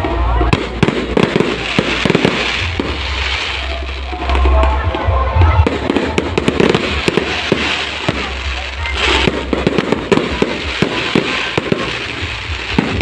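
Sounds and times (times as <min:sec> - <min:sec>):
fireworks bangs and pops: 0:00.0 - 0:13.0
hissing crackle: 0:00.0 - 0:13.0.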